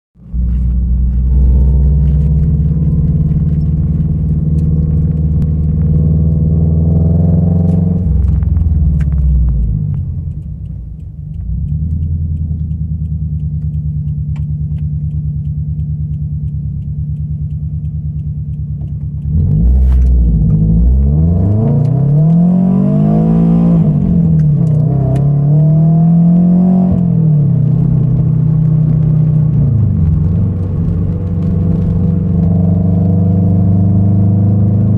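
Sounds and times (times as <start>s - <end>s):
car engine drone from cabin: 0.2s - 34.9s.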